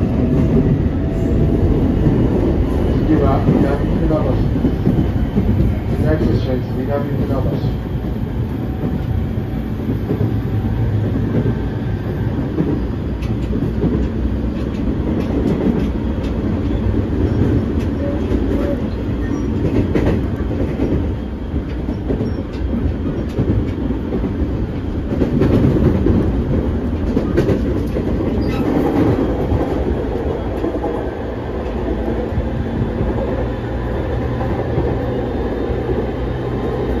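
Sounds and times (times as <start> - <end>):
rail joint clicks: 0.0 - 37.0
train wheels rumbling on rail: 0.0 - 37.0.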